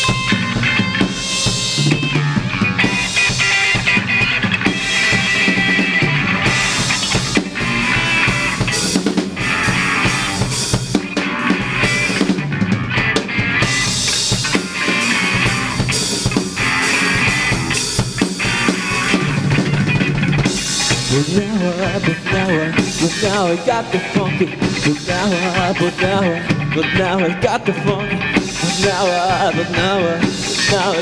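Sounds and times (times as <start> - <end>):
drum kit: 0.0 - 31.0
electric guitar: 0.0 - 31.0
slap bass: 0.0 - 31.0.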